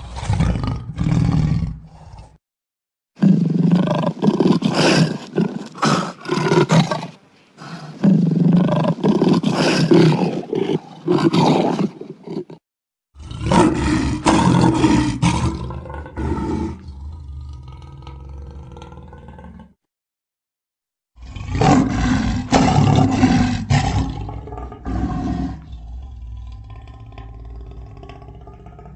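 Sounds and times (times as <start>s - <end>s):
tiger roaring and growling: 0.0s - 2.4s, 3.2s - 12.6s, 13.2s - 19.8s, 21.2s - 28.9s.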